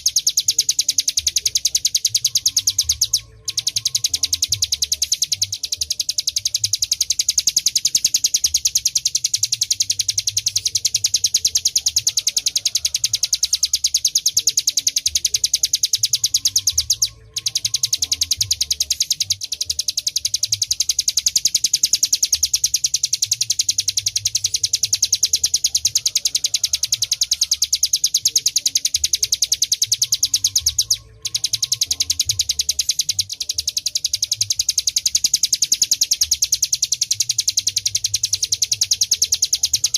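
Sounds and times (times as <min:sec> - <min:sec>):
bird trilling high chirps: 0:00.0 - 0:39.9.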